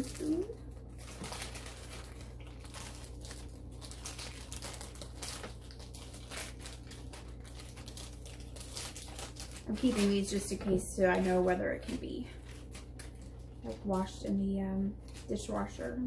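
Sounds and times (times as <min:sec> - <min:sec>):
packaging crinkling: 0:00.0 - 0:14.2, 0:15.0 - 0:15.8
steady low hum: 0:00.0 - 0:16.0.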